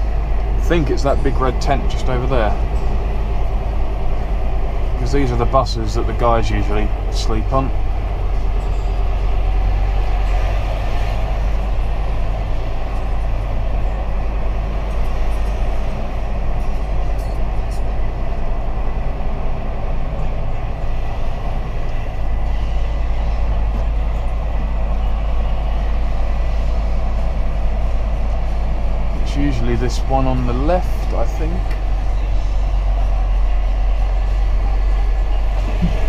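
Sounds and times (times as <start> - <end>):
road noise: 0.0 - 36.0
truck engine droning: 0.0 - 36.0.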